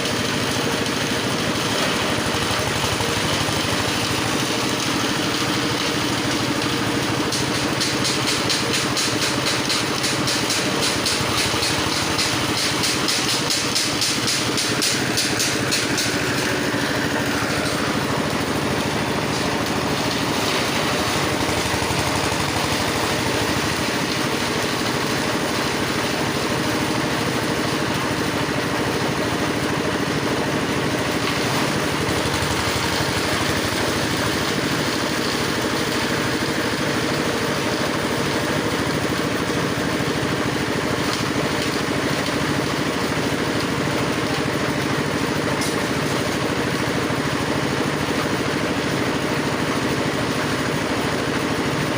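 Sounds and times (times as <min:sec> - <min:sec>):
chaff cutter engine running: 0:00.0 - 0:51.9.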